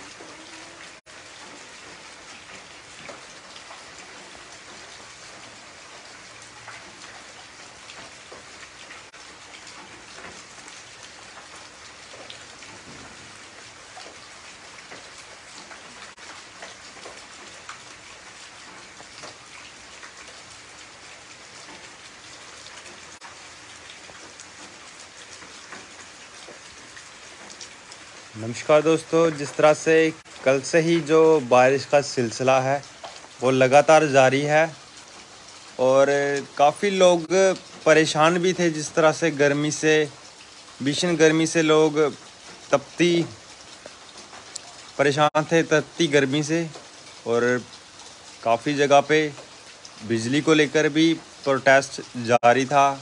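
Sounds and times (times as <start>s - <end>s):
heavy rain on concrete: 0.0s - 53.0s
raindrops splashing in water: 0.0s - 53.0s.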